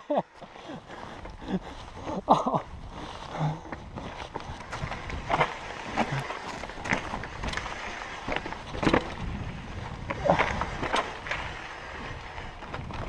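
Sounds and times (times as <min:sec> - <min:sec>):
bike knocking and rattling: 0:00.4 - 0:13.0
bike tyres rumbling over rocks: 0:00.4 - 0:13.0.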